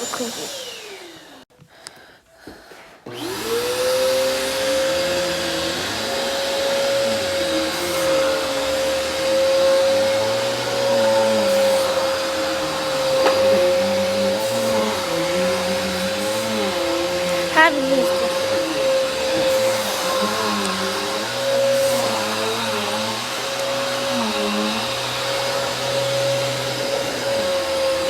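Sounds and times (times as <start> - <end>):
vacuum cleaner motor whining: 0.0 - 1.5, 2.5 - 28.0.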